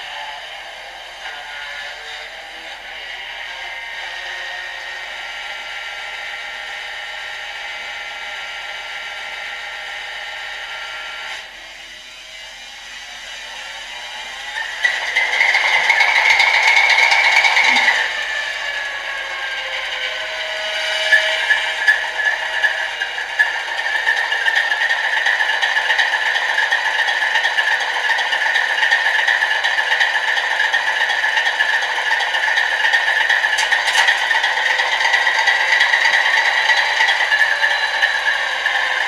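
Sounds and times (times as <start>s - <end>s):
tinny diesel engine drone: 0.0s - 39.0s.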